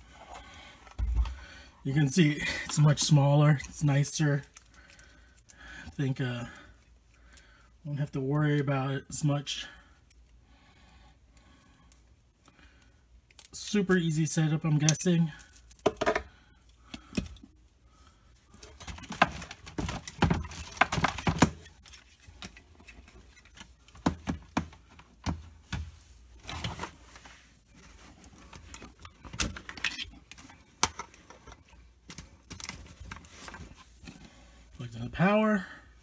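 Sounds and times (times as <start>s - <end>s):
cables and plugs handled: 0.0s - 7.4s, 11.4s - 34.9s.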